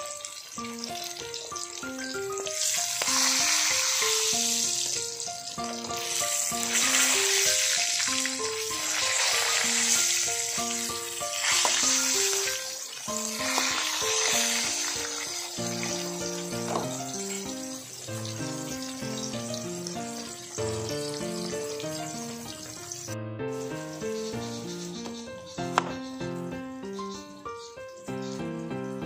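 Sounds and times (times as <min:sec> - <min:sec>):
fish sizzling in a wok: 0:00.0 - 0:29.0.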